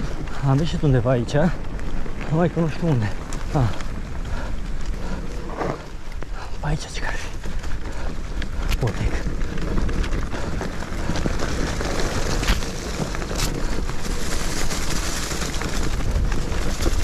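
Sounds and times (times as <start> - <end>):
bike clicks and rattles: 0.0 - 17.0
bike tyres rumbling over ground: 0.0 - 17.0.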